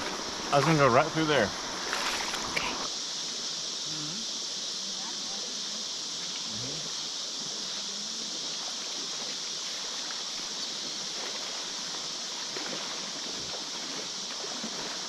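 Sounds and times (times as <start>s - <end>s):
river water running over gravel: 0.0s - 15.0s.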